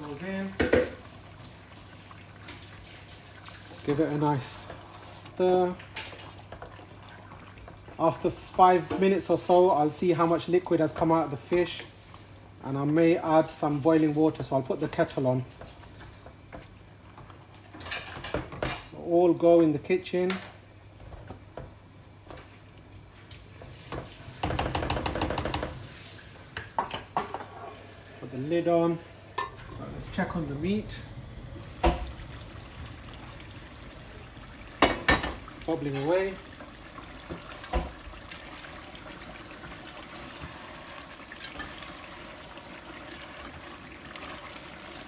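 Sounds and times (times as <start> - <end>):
curry simmering in a pot: 0.0 - 21.4, 22.4 - 45.0.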